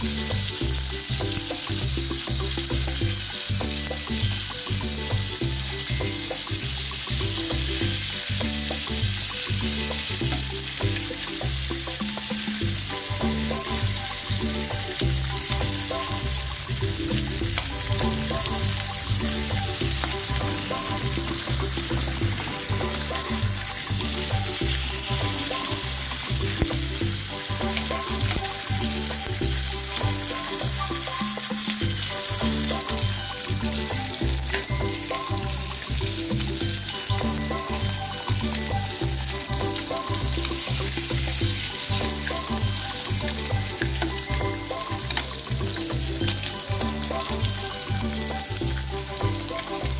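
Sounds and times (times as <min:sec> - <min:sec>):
background music with bass: 0:00.0 - 0:49.9
bacon sizzling in a wok: 0:00.0 - 0:49.9.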